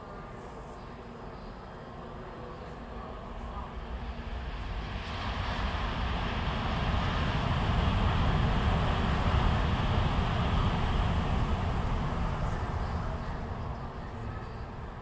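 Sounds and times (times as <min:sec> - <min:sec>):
train rumbling past: 0:01.5 - 0:15.0.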